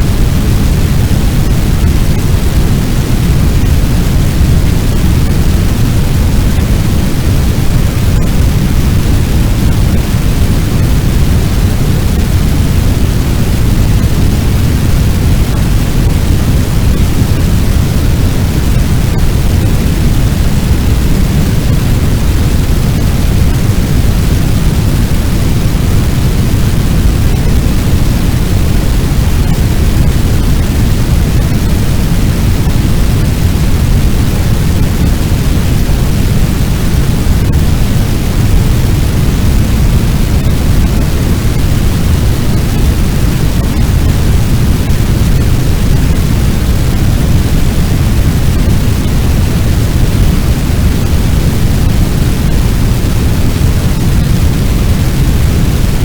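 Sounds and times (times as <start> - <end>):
roaring fire: 0.0 - 56.0.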